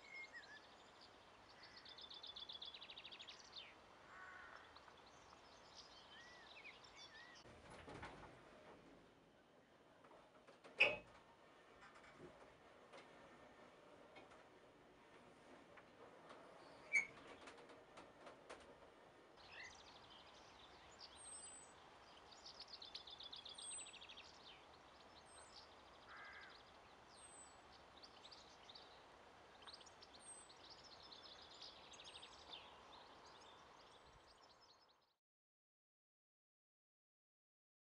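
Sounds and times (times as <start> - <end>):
faint songbirds singing: 0.0 - 7.5, 9.3 - 35.2
soft outdoor hush: 0.0 - 35.0.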